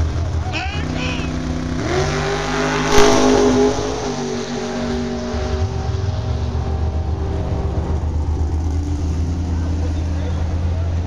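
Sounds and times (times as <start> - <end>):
drag car engine revving: 0.0 - 11.0.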